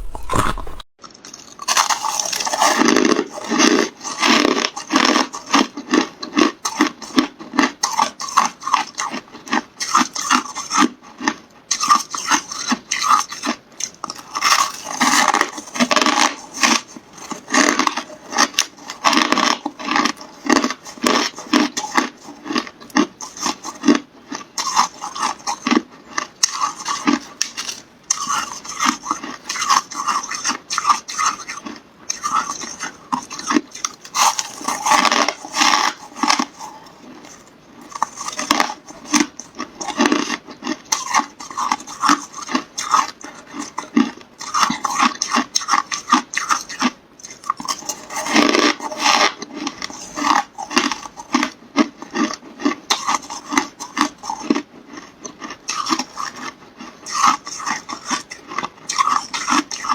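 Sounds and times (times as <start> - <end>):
chewing ice cracks and crunches: 0.0 - 59.9.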